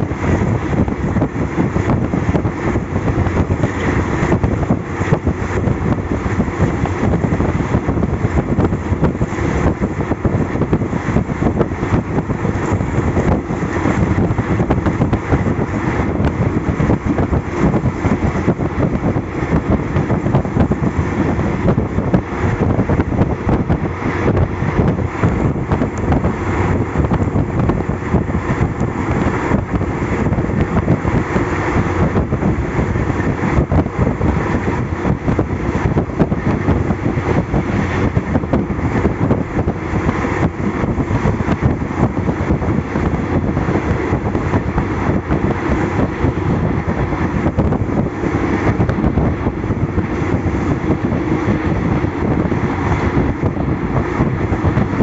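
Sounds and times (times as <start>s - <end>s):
train wheels rumbling on track: 0.0s - 55.0s
wind rushing past: 0.0s - 55.0s.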